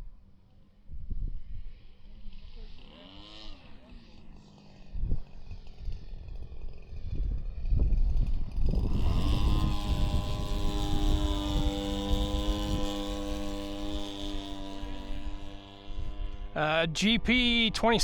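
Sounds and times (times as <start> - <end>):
model plane engine droning: 0.1 - 18.0.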